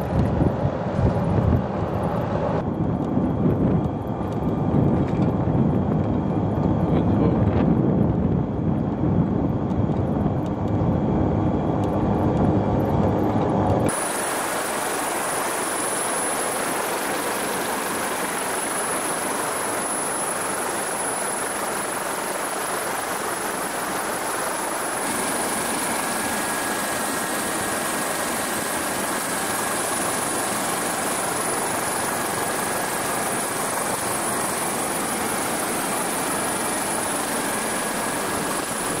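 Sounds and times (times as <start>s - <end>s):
helicopter noise from on board: 0.0s - 39.0s.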